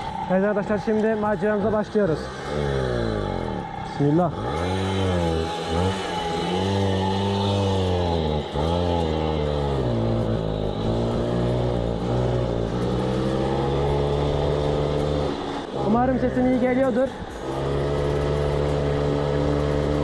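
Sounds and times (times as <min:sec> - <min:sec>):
moped two-stroke engine revving: 0:00.0 - 0:20.0.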